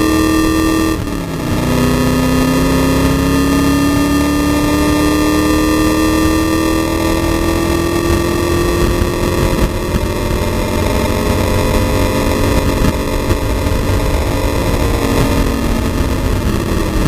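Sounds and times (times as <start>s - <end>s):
race car engine running: 0.0s - 17.0s
wind and road noise: 0.0s - 17.0s.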